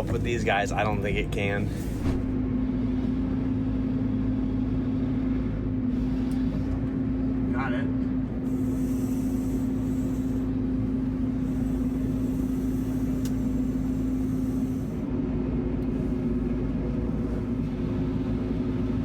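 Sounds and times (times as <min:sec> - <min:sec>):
diesel machinery engine drone: 0:00.0 - 0:19.0.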